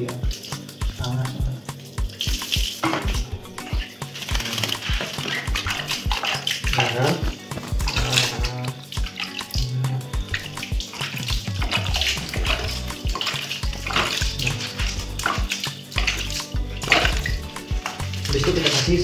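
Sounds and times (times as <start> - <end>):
background music: 0.0 - 19.0
water splashing: 0.0 - 19.0.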